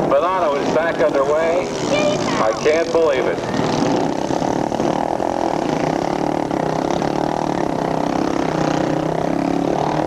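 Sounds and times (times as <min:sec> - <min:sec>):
motorcycle engines revving: 0:00.0 - 0:10.0.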